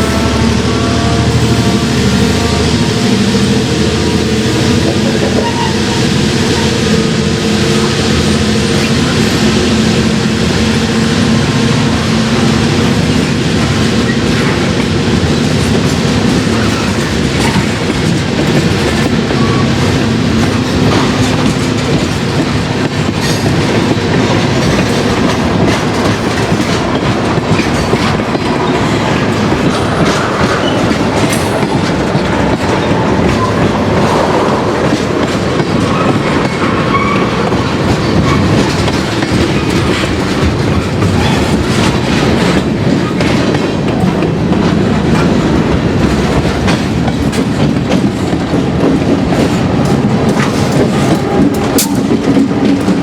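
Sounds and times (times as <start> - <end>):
locomotive humming: 0.0 - 53.0
train wheels clattering on rails: 0.0 - 53.0.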